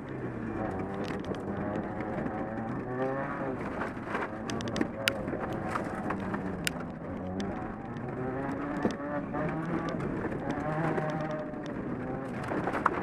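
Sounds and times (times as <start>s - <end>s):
car engine revving: 0.0s - 13.0s
gravel clicking against car: 0.0s - 13.0s.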